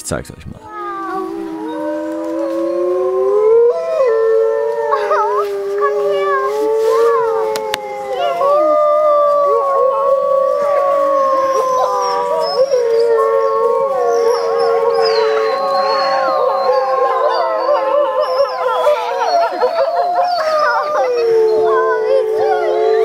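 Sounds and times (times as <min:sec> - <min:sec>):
wavering wolf calls: 0:00.7 - 0:23.0
wolves howling in chorus: 0:00.7 - 0:23.0.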